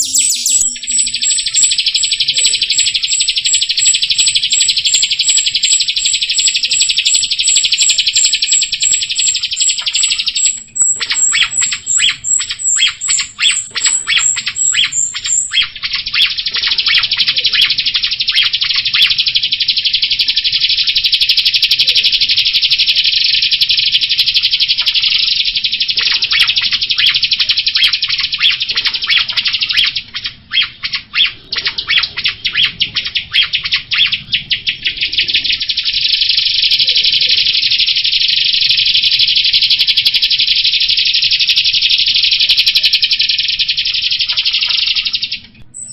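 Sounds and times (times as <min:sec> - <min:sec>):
starling singing chatter: 0:00.0 - 0:22.3, 0:23.6 - 0:45.9
high bird trill: 0:00.0 - 0:45.9.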